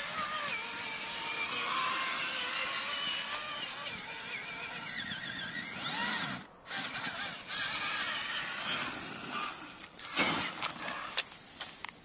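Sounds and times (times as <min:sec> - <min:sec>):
electric motor whining: 0:00.0 - 0:11.2.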